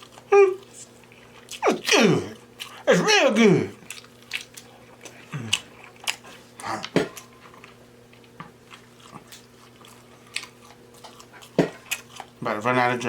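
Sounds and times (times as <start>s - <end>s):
chewing and lip smacking: 0.0s - 2.9s, 3.7s - 12.4s.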